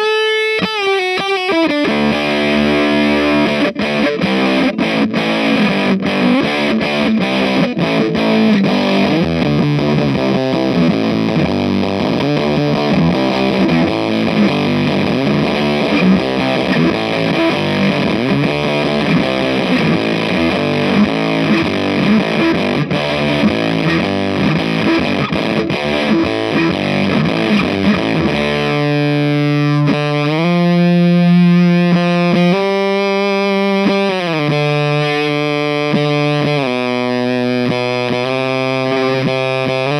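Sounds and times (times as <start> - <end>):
fuzzed electric guitar riffing: 0.0 - 39.9
sliding held guitar notes: 0.0 - 39.9.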